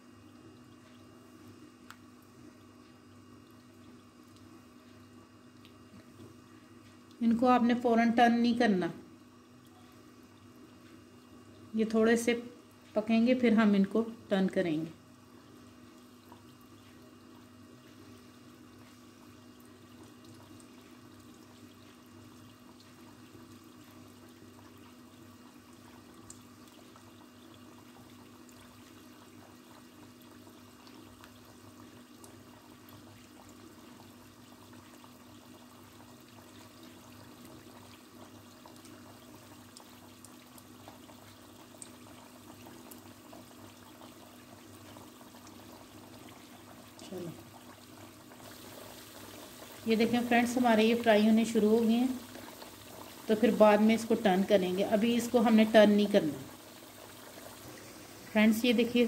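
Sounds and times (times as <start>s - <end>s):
dough frying in ghee: 0.0s - 59.0s.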